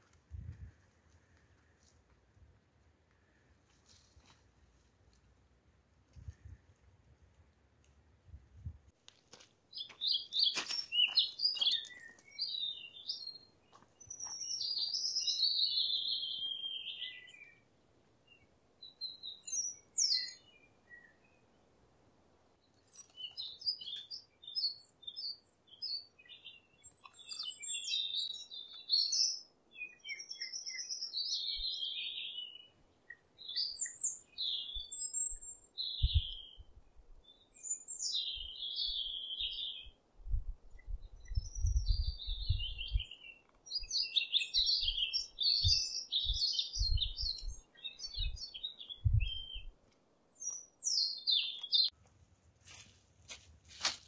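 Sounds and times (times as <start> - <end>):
songbirds chirping and twittering: 9.0 - 54.0.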